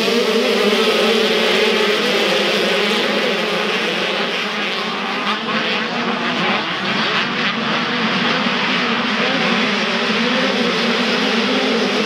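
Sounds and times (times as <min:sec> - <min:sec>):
motocross bikes racing at high revs: 0:00.0 - 0:12.0.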